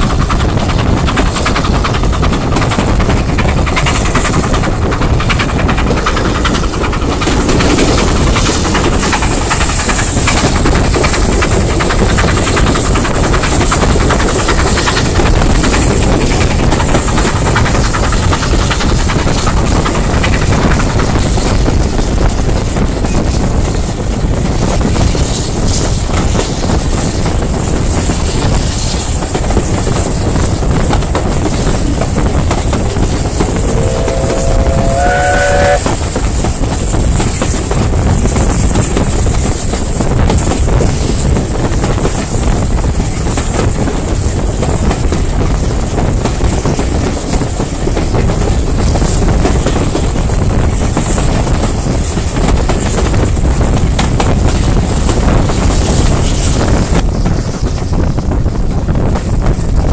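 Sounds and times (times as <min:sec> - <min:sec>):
train carriages rolling on rails: 0:00.0 - 0:59.9
wind rushing: 0:00.0 - 0:59.9.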